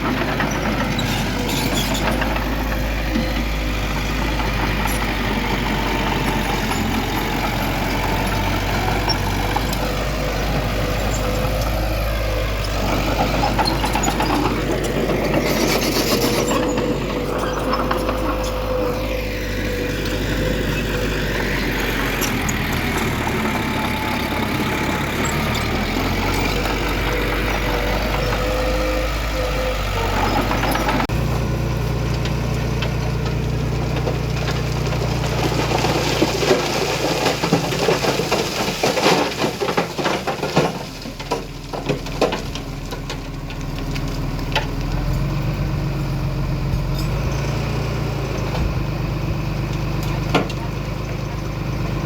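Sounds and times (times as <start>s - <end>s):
heavy diesel engines running: 0.0s - 52.0s.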